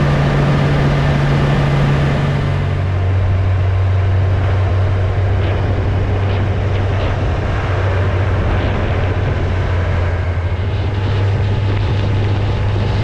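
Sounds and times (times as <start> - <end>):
motorcycle engine cruising: 0.0 - 13.0
wind rush: 0.0 - 13.0.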